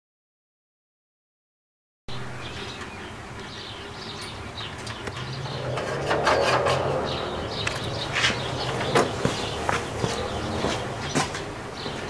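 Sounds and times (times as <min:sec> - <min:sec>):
rustle: 0:02.1 - 0:12.0
small birds chirping: 0:02.1 - 0:12.0
steady low hum: 0:02.1 - 0:12.0.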